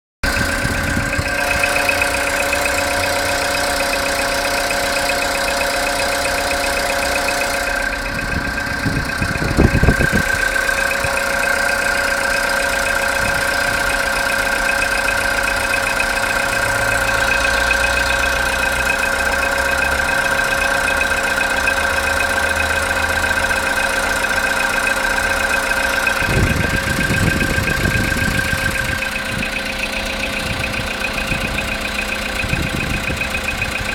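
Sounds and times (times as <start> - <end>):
car engine idling: 0.2 - 33.9
engine knock: 0.2 - 33.9.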